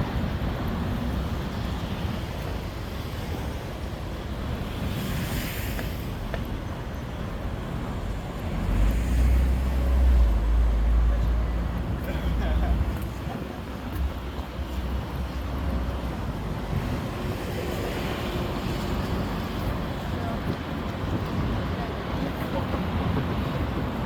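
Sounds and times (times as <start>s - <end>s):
passing vehicles: 0.0s - 24.0s.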